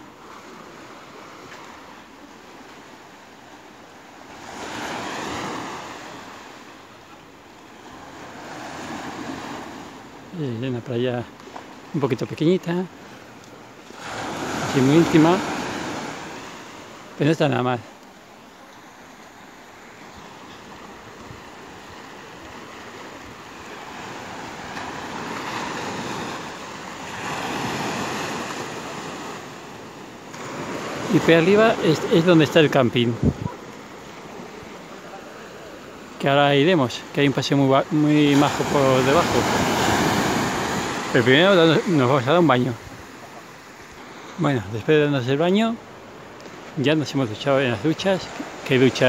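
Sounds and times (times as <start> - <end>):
small waves breaking: 0.0 - 49.0.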